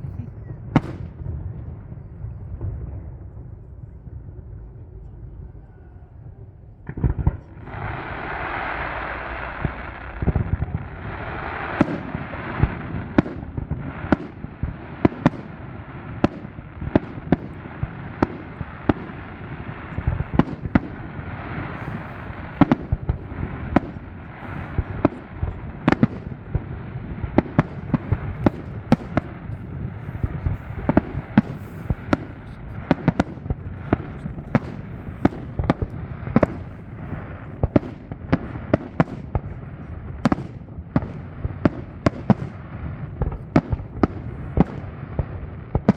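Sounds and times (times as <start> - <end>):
background noise: 0.0 - 45.9
fireworks bursting: 6.8 - 45.9.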